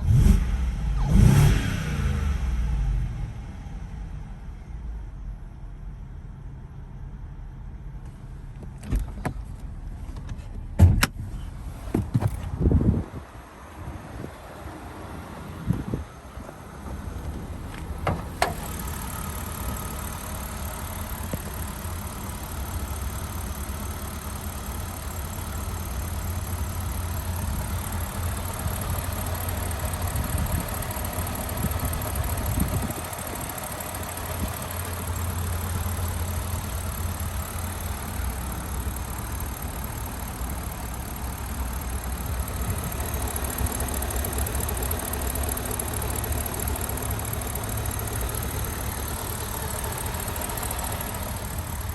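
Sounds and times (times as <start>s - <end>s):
car engine idling: 2.4s - 51.9s.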